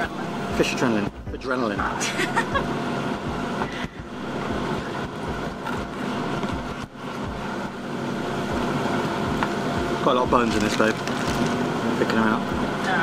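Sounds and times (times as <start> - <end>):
yacht rumbling under way: 0.0 - 13.0.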